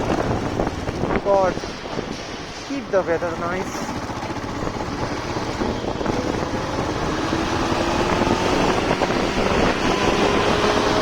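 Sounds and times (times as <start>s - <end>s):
motorcycle engine running: 0.0s - 11.0s
road noise: 0.0s - 11.0s
wind noise: 0.0s - 11.0s.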